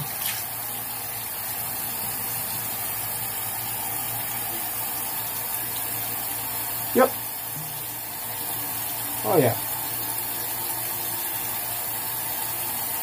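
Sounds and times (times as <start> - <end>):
sink faucet running: 0.0 - 13.0.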